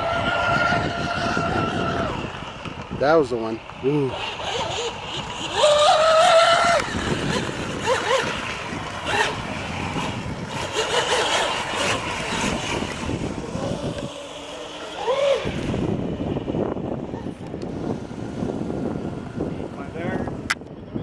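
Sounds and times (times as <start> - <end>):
hull rushing on water: 0.0 - 21.0
rc boat motor whine: 0.0 - 21.0.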